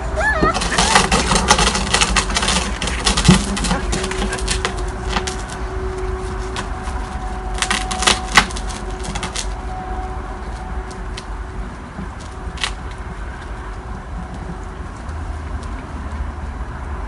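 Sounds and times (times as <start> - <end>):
puppy paws clicking on paving: 0.0 - 9.7, 10.4 - 17.0.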